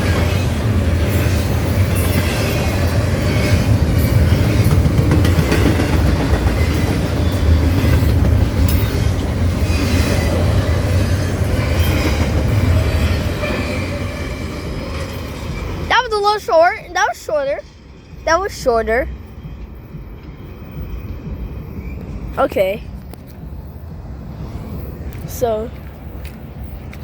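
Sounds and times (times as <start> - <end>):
freight cars rumbling on rails: 0.0 - 27.0
wheels clacking over rail joints: 0.0 - 27.0.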